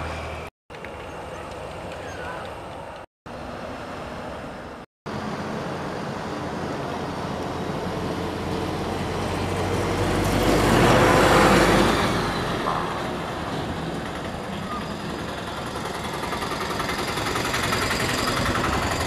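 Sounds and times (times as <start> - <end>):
jet engines roaring at takeoff: 0.0 - 19.0.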